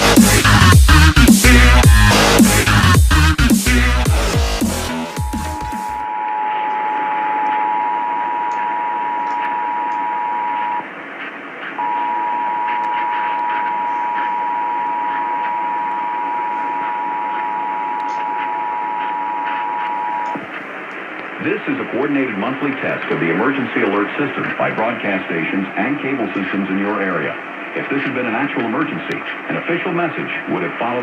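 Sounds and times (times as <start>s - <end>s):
radio hiss and crackle: 4.9s - 31.0s.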